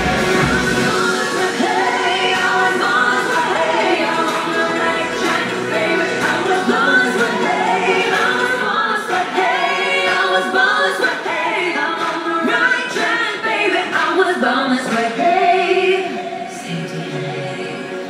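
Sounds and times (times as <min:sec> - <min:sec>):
choir-like vocal music: 0:00.0 - 0:18.0.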